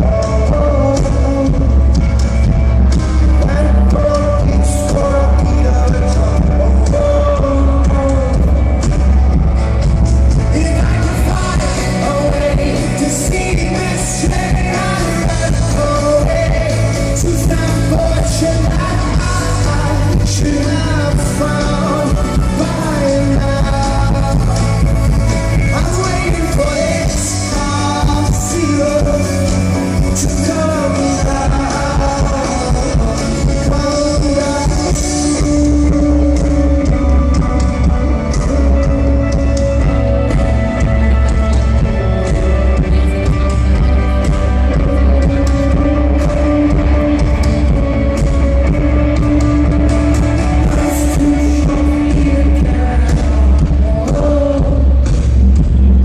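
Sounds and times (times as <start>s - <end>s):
live rock band: 0.0s - 56.0s
man singing: 0.0s - 56.0s.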